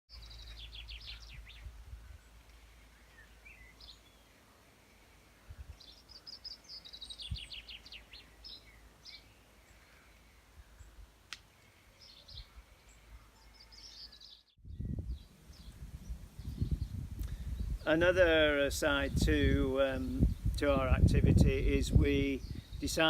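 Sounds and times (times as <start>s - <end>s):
songbirds singing: 0.1s - 23.0s.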